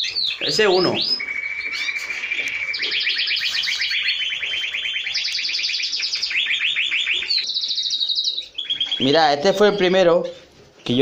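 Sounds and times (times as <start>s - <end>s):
canary singing trills: 0.0s - 11.0s.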